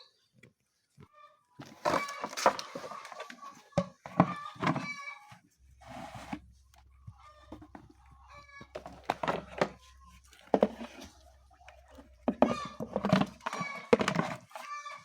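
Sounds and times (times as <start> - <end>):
chickens clucking: 1.0 - 5.4, 6.9 - 15.0.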